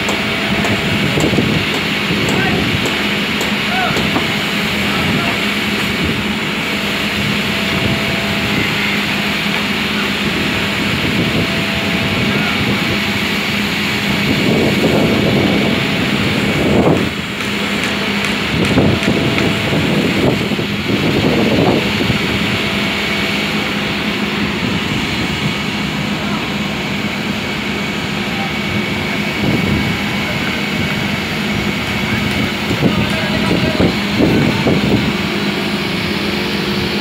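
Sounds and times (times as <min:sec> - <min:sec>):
machinery humming: 0:00.0 - 0:37.0.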